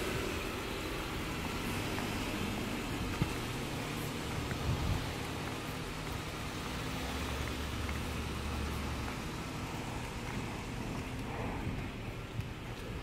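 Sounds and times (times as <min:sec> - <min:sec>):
outdoor noise hiss: 0:00.0 - 0:13.0
vehicle engine humming: 0:00.0 - 0:13.0.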